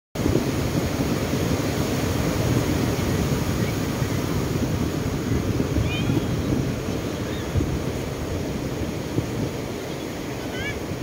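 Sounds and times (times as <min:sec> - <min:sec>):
small waves breaking on shore: 0:00.2 - 0:11.0
wind buffeting the microphone: 0:00.2 - 0:11.0.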